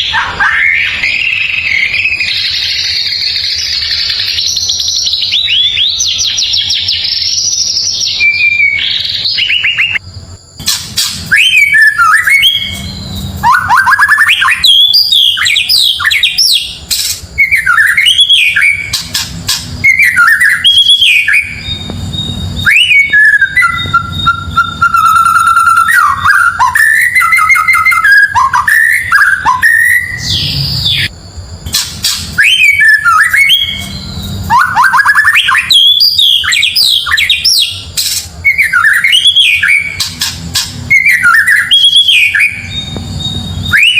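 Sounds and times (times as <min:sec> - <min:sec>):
songbird singing whistles and trills: 0:00.0 - 0:10.0, 0:10.6 - 0:31.1, 0:31.7 - 0:43.9.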